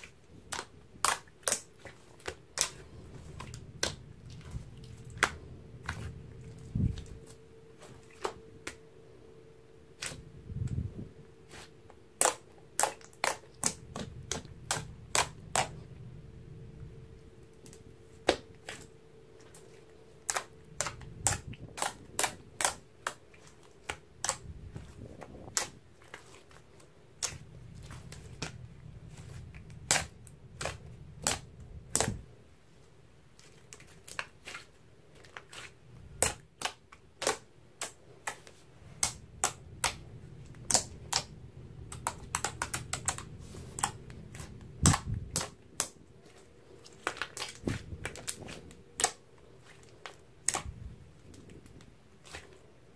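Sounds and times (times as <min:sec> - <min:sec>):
slime squelching: 0:00.0 - 0:16.2, 0:17.1 - 0:52.9.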